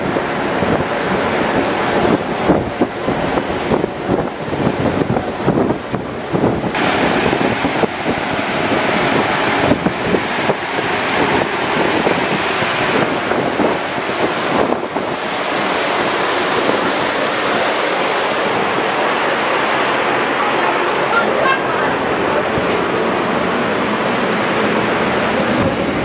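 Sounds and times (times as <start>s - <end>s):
wind and sea rushing: 0.0s - 26.0s
wind buffeting microphone: 0.0s - 26.0s.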